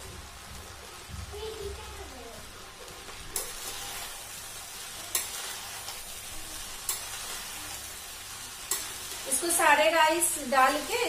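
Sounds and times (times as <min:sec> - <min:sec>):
fried rice sizzling in pan: 0:00.0 - 0:11.0.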